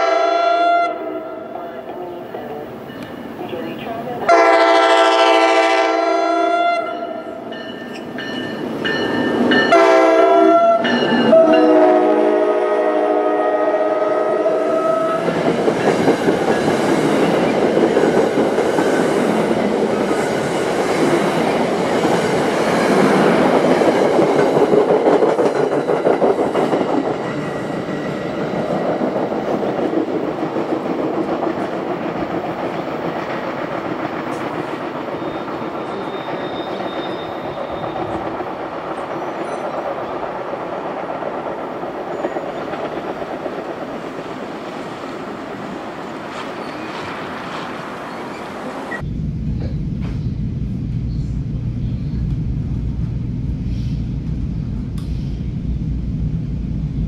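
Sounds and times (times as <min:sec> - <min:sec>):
train wheels on rails: 0:01.0 - 0:51.3.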